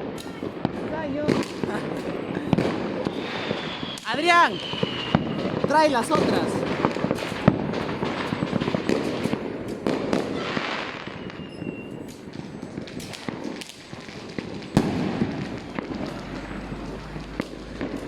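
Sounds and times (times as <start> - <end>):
firecrackers crackling: 0.0 - 18.0
loud firework bang: 0.0 - 18.0.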